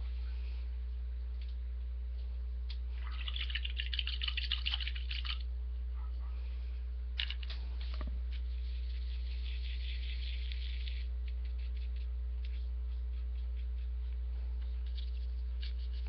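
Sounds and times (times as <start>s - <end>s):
low electrical mains hum: 0.0s - 16.0s.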